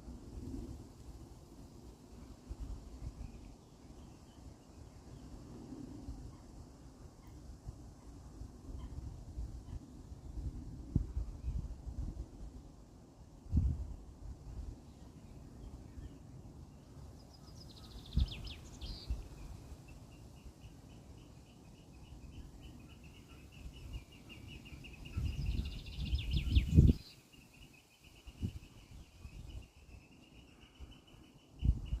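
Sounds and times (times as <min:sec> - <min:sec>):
wind rumble on microphone: 0:00.0 - 0:21.4, 0:22.1 - 0:27.2, 0:28.1 - 0:32.0.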